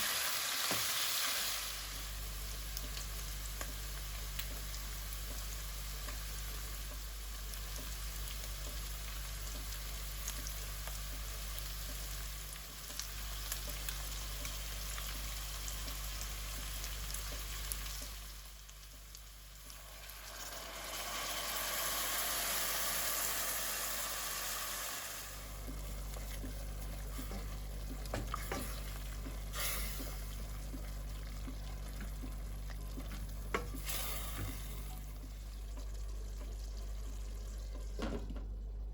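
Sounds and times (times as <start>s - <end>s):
food sizzling in a frying pan: 0.0s - 37.7s
steady low hum: 1.8s - 21.6s, 25.3s - 38.9s.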